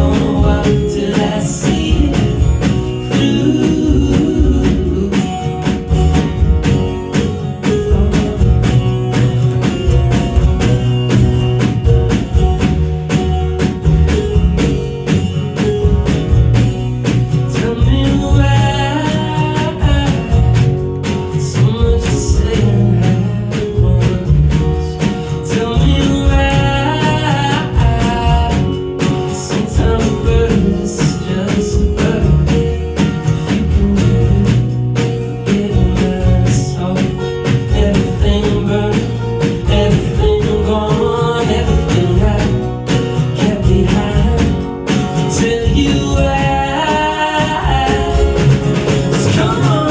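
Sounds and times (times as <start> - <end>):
drums: 0.0 - 49.9
indie folk band playing: 0.0 - 49.9
sliding lead melody: 0.0 - 49.9.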